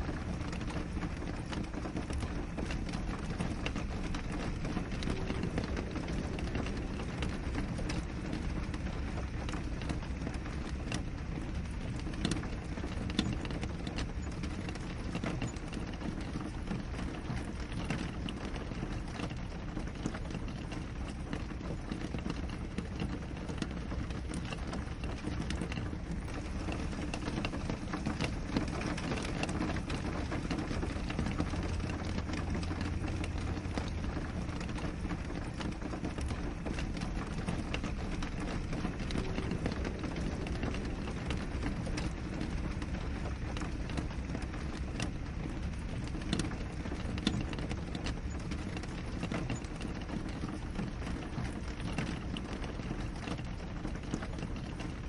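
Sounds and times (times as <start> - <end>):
rain on window glass: 0.0 - 55.0.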